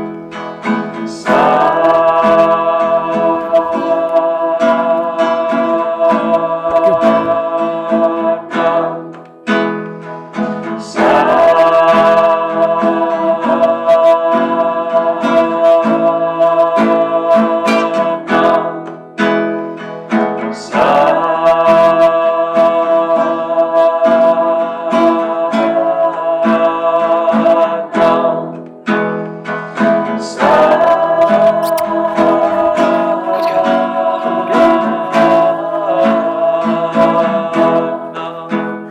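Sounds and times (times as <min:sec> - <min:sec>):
acoustic guitar plucked chords: 0:00.0 - 0:38.9.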